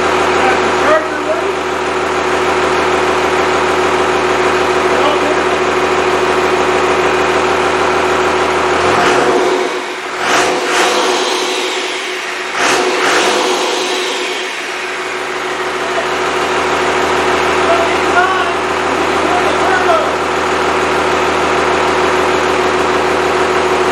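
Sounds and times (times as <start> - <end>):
diesel engine running and revving: 0.0 - 23.9.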